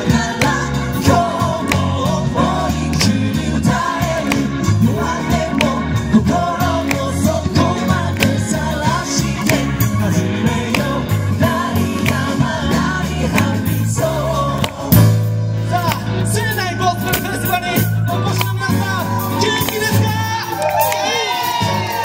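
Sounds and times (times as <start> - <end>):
gospel group singing through pa: 0.0 - 20.2
deep bass: 0.0 - 20.7.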